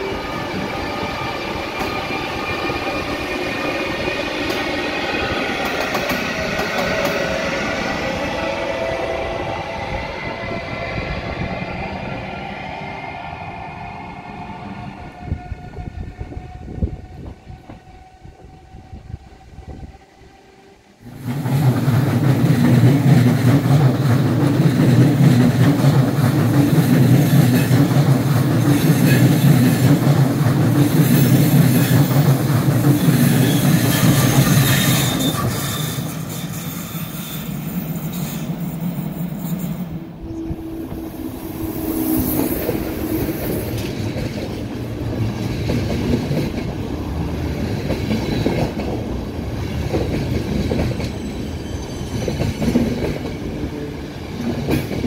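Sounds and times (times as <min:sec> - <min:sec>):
train wheels rumbling on rails: 0:00.0 - 0:20.0, 0:21.0 - 0:55.0
slower train rolling: 0:00.0 - 0:55.0.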